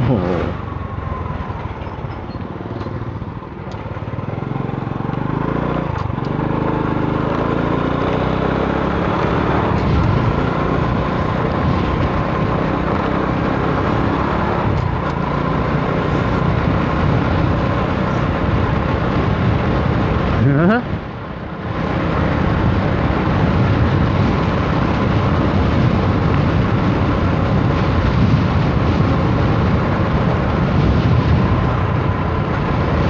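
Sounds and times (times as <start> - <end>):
motorcycle engine running: 0.0 - 33.0
wind rushing over microphone: 0.0 - 33.0.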